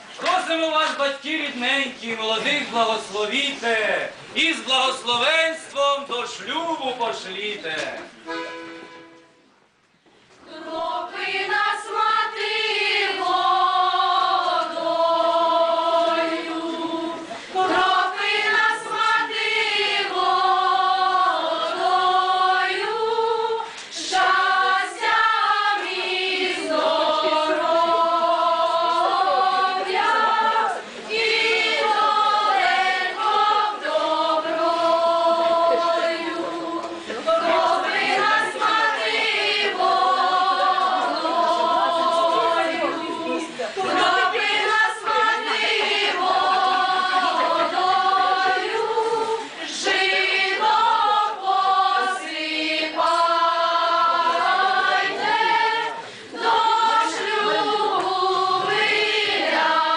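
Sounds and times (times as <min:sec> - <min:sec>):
women's choir singing folk song: 0:10.4 - 0:59.9.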